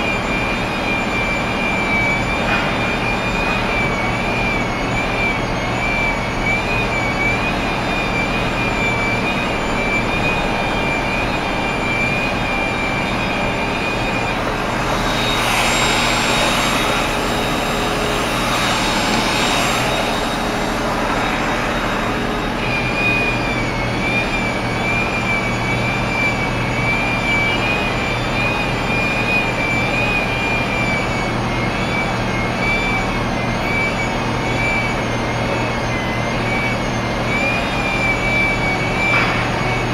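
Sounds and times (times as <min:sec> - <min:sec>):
high wavering whine: 0:00.0 - 0:39.9.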